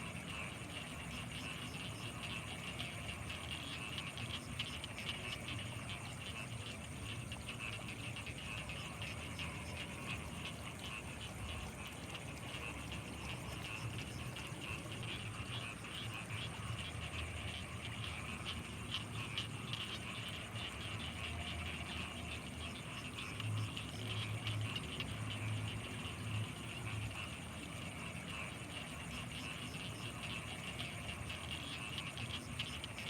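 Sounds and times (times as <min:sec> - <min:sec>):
frogs and insects trilling: 0:00.0 - 0:33.0
low pulsing frog croaks: 0:00.0 - 0:33.0.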